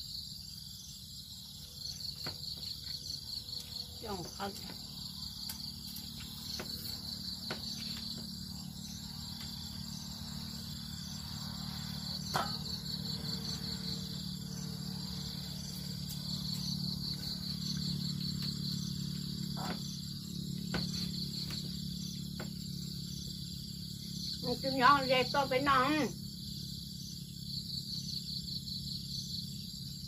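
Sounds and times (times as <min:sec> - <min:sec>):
insects chirping in a trill: 0:00.0 - 0:30.0.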